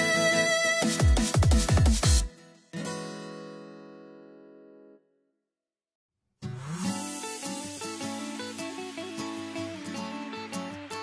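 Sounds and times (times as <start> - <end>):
plucked guitar music: 0.0 - 5.0, 6.4 - 11.0.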